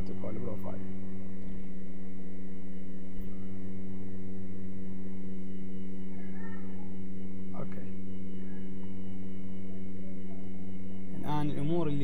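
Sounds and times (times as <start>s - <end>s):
buzzy electrical hum: 0.0s - 12.0s.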